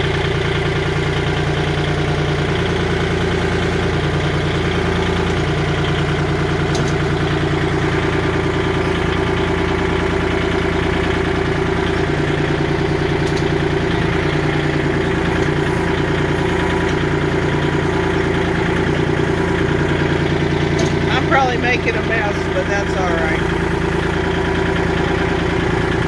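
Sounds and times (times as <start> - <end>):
tractor diesel engine idling: 0.0 - 26.0.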